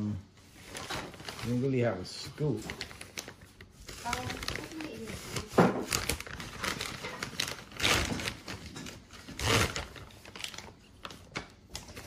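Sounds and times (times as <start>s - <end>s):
plastic rustling: 0.4s - 12.0s.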